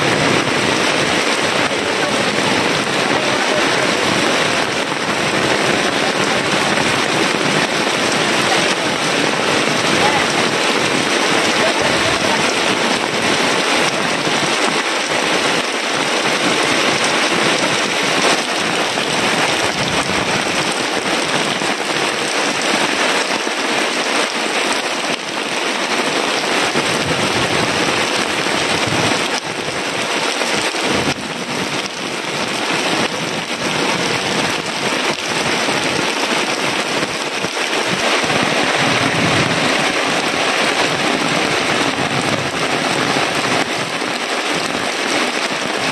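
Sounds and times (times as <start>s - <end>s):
heavy rain falling: 0.0s - 45.9s
water streaming off roof: 0.0s - 45.9s.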